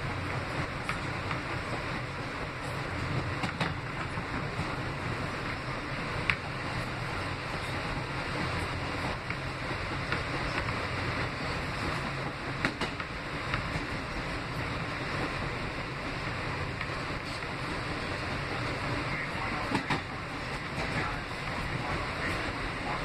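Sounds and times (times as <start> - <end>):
subway train rumbling: 0.0 - 23.0.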